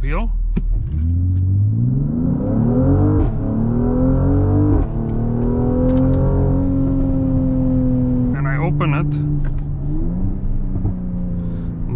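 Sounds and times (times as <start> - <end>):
car engine accelerating: 0.5 - 11.9.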